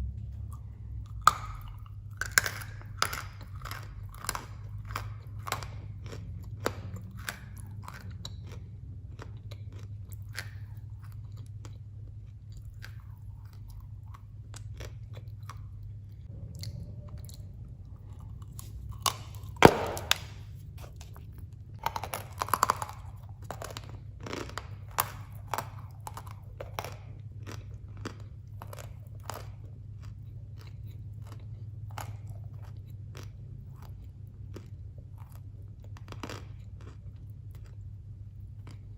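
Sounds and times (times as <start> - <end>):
steady low hum: 0.0 - 38.9
crunchy chewing of dry clay: 0.3 - 38.9.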